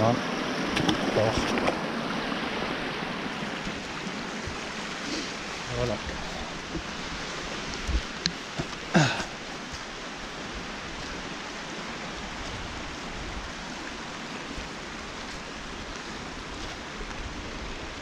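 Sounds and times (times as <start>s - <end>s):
forest stream running: 0.0s - 18.0s
heavy rain: 1.1s - 18.0s.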